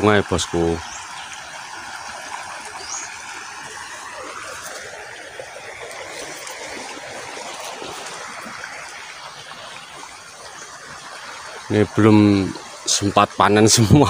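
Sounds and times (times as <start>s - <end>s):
river flowing over stones: 0.0s - 14.0s.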